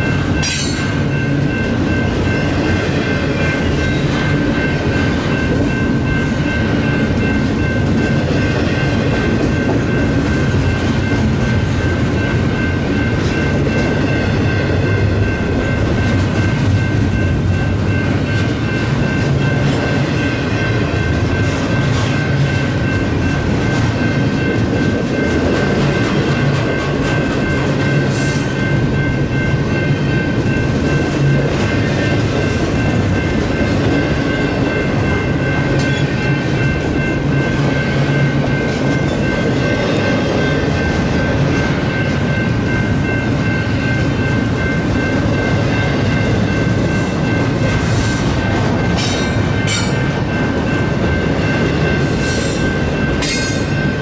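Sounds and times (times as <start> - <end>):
crossing bell ringing: 0.0 - 54.0
freight train rumble and wheel clatter: 0.0 - 54.0.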